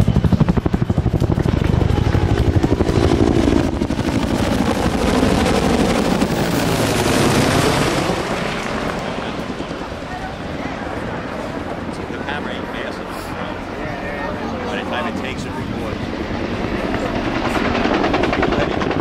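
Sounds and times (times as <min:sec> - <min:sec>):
helicopter flying past: 0:00.0 - 0:19.0.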